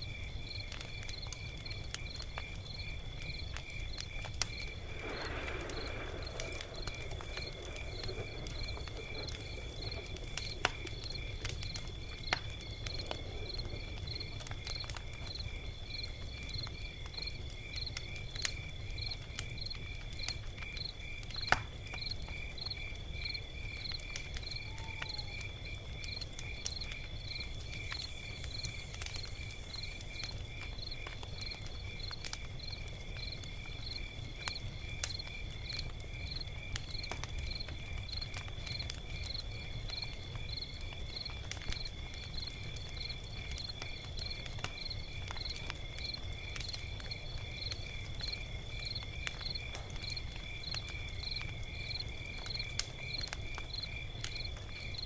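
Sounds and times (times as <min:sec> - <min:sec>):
crickets chirping: 0:00.0 - 0:55.0
log fire crackling and popping: 0:00.0 - 0:55.0.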